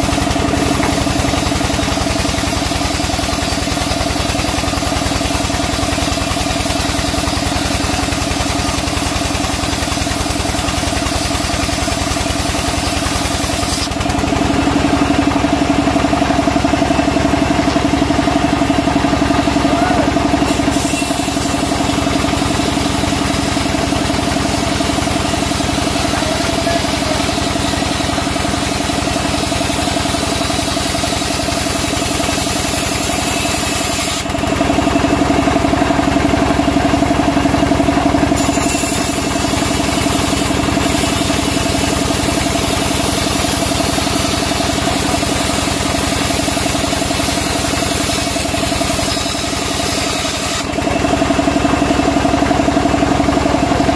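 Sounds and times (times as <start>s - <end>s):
band sawmill cutting wood: 0.0s - 53.9s.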